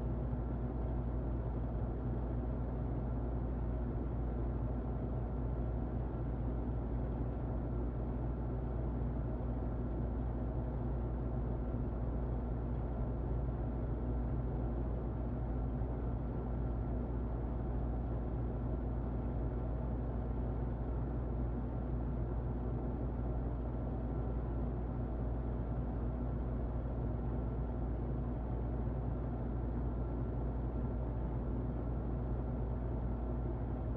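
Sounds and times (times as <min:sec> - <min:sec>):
muffled electric fan running: 0:00.0 - 0:33.9.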